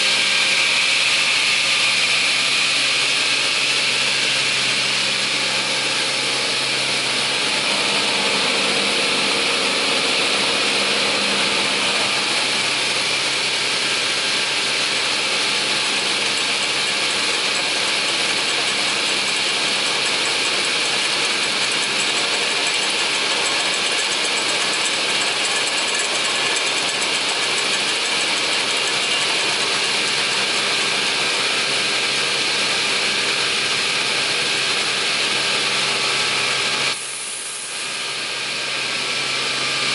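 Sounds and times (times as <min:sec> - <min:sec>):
saw blade whirring: 0:00.0 - 0:39.9.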